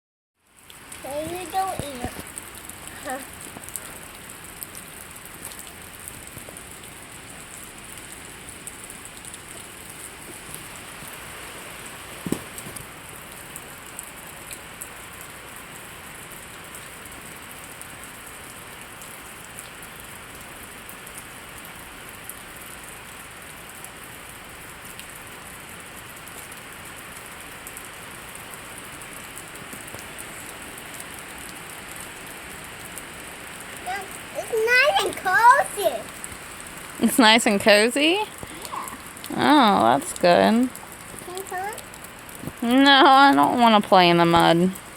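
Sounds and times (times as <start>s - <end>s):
steady rain falling: 0.4s - 44.9s.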